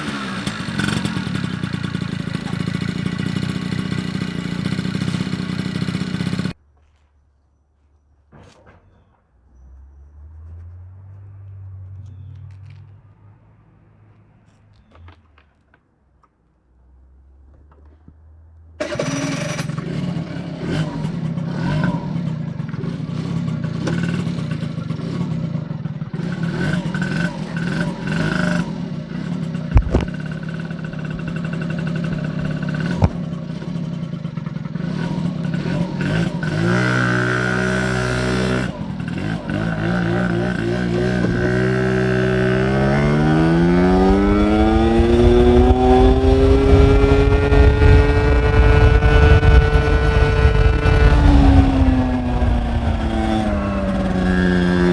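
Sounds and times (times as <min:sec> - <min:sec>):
scooter engine running: 0:00.0 - 0:06.6, 0:17.5 - 0:54.9.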